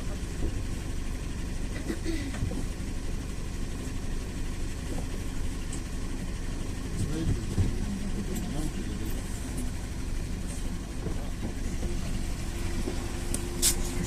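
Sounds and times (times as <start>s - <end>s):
minibus engine rumble: 0.0s - 14.0s.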